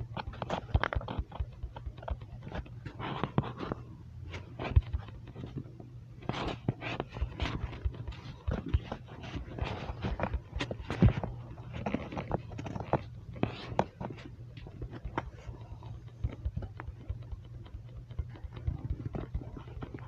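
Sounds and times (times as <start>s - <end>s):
fox chewing and crunching: 0.0s - 20.0s.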